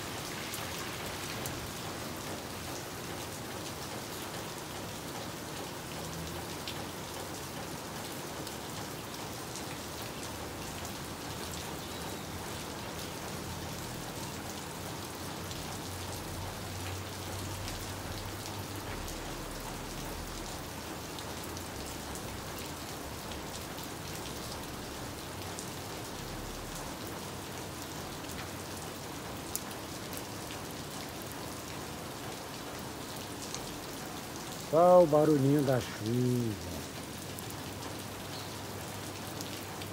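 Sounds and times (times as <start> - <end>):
rain on roofs and wet street: 0.0 - 39.9.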